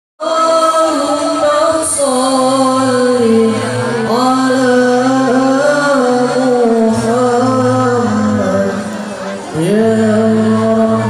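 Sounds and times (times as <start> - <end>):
person singing through pa: 0.2 - 11.0.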